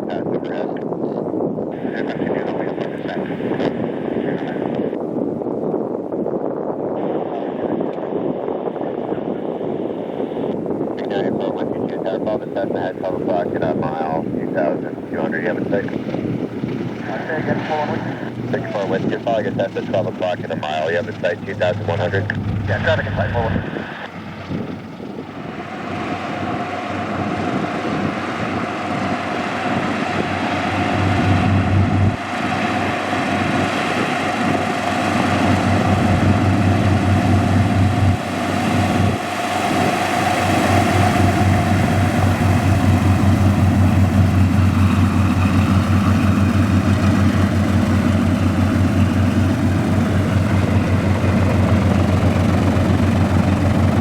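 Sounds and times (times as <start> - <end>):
aircraft engines throbbing: 0.0 - 54.0.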